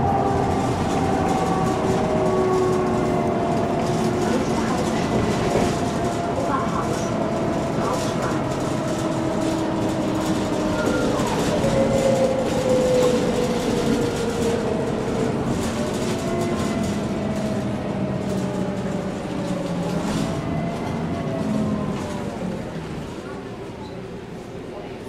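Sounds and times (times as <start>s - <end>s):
bus engine running: 0.0s - 25.0s.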